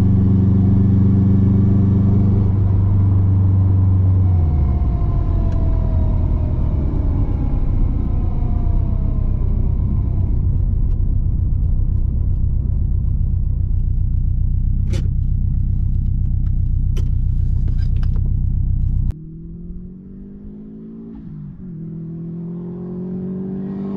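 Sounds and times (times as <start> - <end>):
car engine revving up: 0.0 - 23.9
engine and road noise drone: 0.0 - 23.9.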